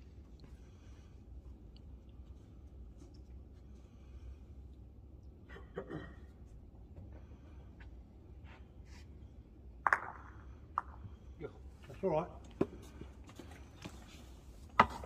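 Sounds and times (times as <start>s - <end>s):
low hall hum: 0.0s - 15.0s.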